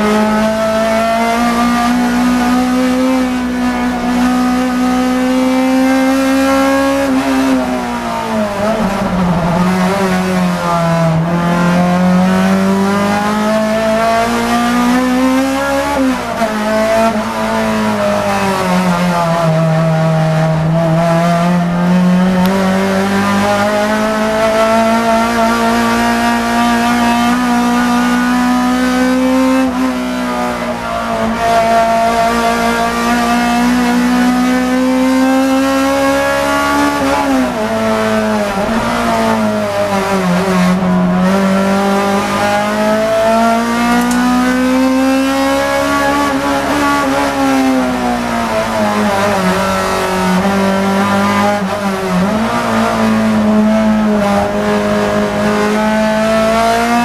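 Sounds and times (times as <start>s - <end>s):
racing car engine from inside cabin: 0.0s - 57.0s.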